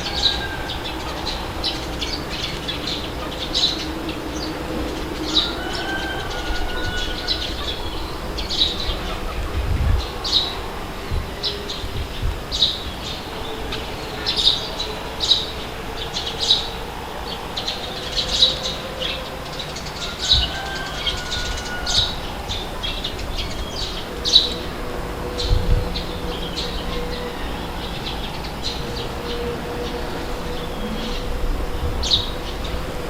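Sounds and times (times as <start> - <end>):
low rumble of wind: 0.0 - 33.0.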